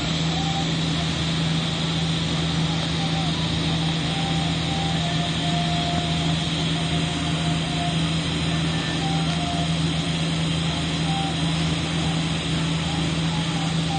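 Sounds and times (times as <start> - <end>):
welding arc buzzing: 0.0 - 13.9.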